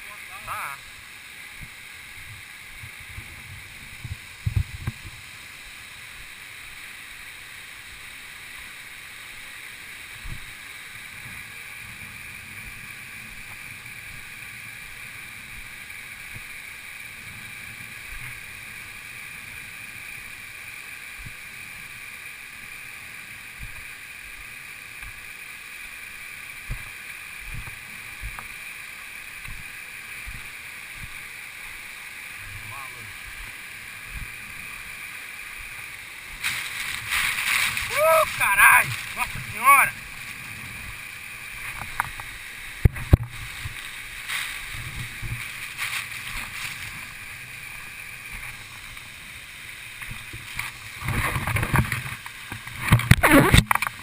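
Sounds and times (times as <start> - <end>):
flowing water hiss: 0.0 - 54.0.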